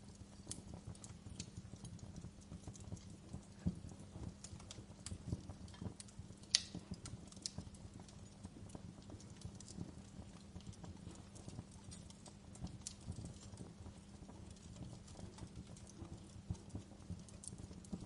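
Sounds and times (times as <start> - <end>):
low rumble of burning: 0.0 - 18.0
wood fire crackling and popping: 0.0 - 18.0.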